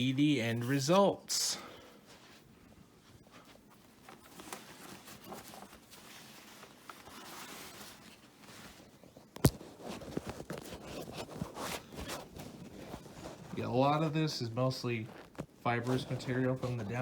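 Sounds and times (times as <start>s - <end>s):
faint rustling and handling: 0.0s - 17.0s.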